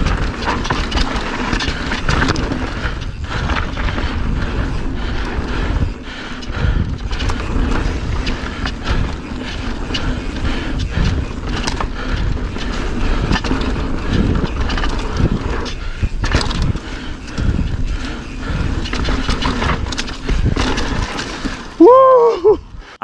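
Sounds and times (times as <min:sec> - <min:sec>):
bike rattling over rocks: 0:00.0 - 0:22.0.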